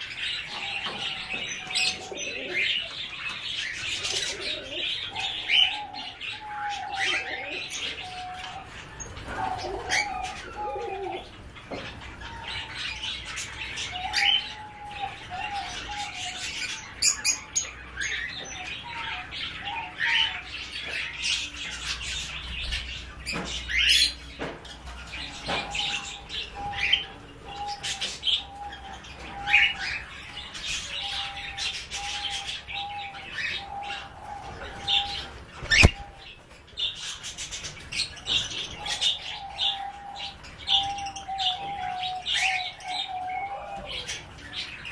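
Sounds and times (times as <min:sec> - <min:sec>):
birds chirping and twittering: 0:00.0 - 0:44.9.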